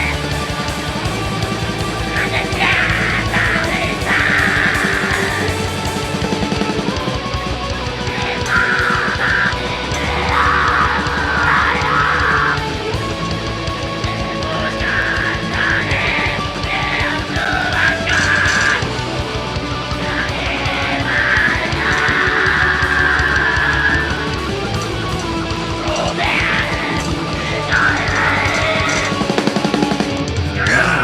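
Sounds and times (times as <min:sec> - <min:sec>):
harsh shouted vocals: 0:00.0 - 0:31.0
live heavy metal band: 0:00.0 - 0:31.0.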